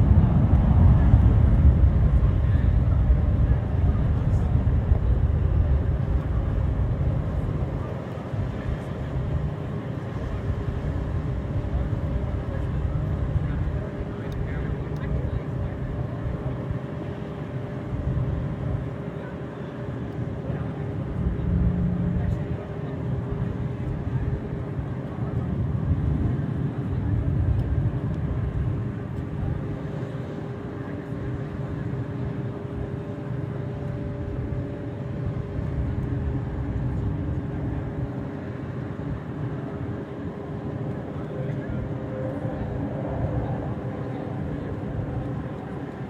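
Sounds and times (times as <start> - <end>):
jet engines rumbling and whining: 0.0 - 46.0.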